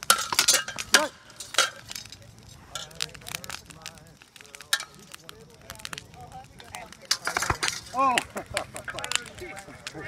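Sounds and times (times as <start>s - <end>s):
onlookers' voices: 0.8s - 10.0s.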